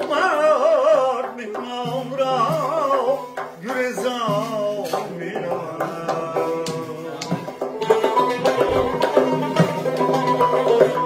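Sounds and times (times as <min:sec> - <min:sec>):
frame drum: 0:00.0 - 0:11.0
man singing: 0:00.0 - 0:11.0
plucked lute: 0:00.0 - 0:11.0.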